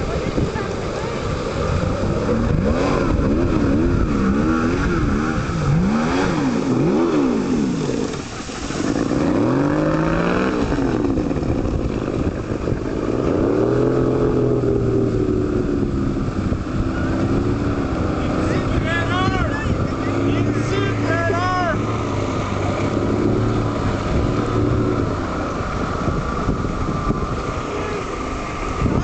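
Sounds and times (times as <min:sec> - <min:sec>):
constant rushing noise: 0:00.0 - 0:29.0
motorboat engine revving: 0:00.0 - 0:29.0.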